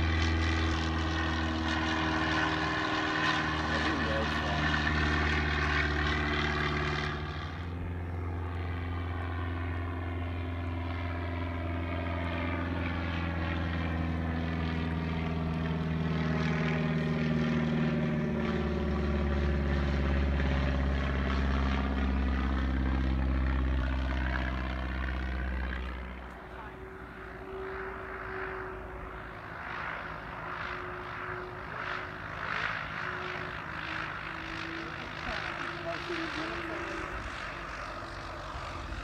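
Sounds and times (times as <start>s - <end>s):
propeller plane droning overhead: 0.0s - 39.0s.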